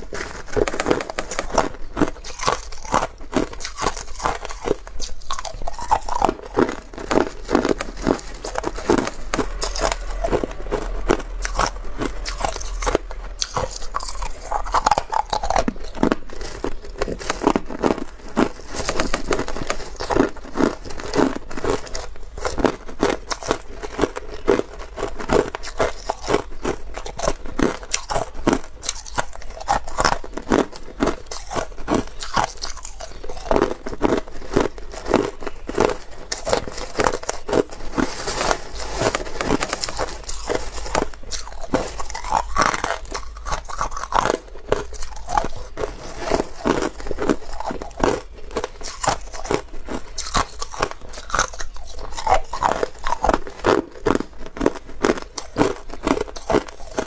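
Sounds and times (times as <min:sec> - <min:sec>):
crushed ice crunching: 0:00.0 - 0:57.0.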